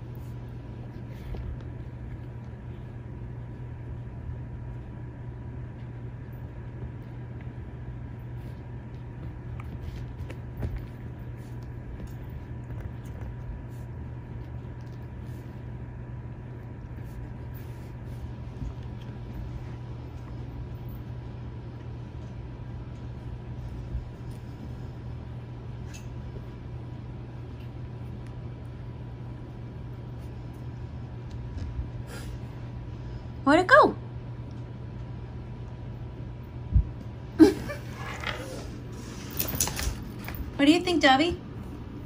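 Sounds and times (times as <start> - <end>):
low hum: 0.0 - 42.0.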